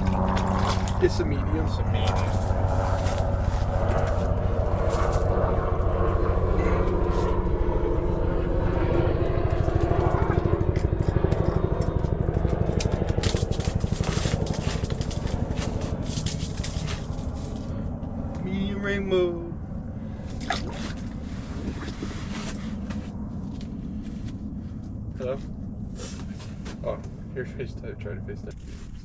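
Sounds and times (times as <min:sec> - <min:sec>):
engine humming: 0:00.0 - 0:28.6.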